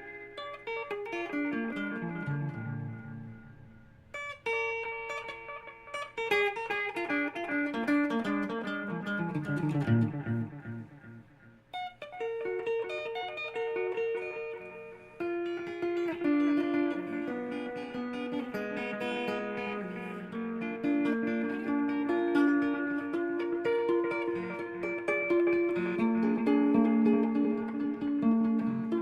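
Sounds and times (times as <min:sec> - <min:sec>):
guitar with reverb delay: 0:00.0 - 0:29.0.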